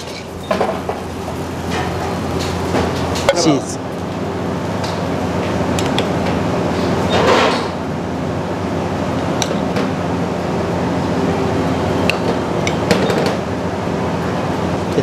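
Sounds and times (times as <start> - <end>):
kitchen machine hum: 0.0 - 15.0.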